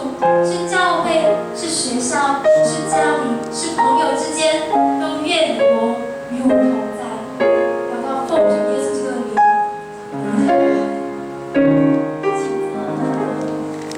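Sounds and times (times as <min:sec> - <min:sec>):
piano playing slow chords: 0:00.0 - 0:13.9.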